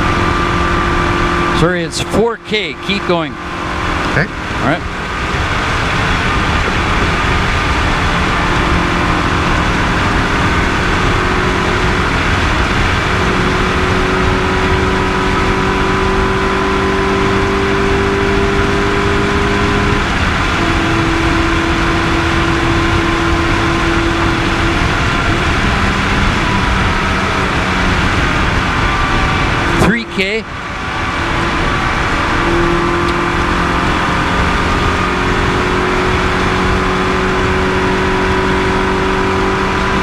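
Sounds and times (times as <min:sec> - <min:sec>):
rally car engine running hard: 0:00.0 - 0:40.0
road and wind noise: 0:00.0 - 0:40.0.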